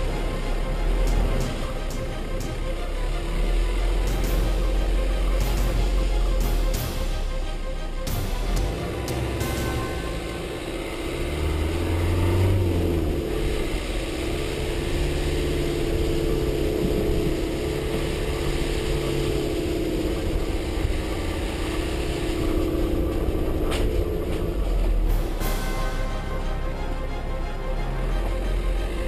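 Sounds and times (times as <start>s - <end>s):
diesel engine droning: 0.0s - 29.0s
road noise: 0.0s - 29.0s.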